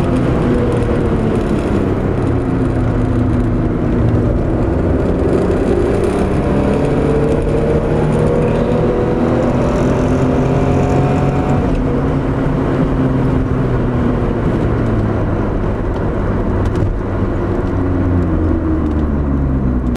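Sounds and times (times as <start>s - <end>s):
car engine pulling: 0.0s - 19.9s
tyre and wind noise: 0.0s - 19.9s.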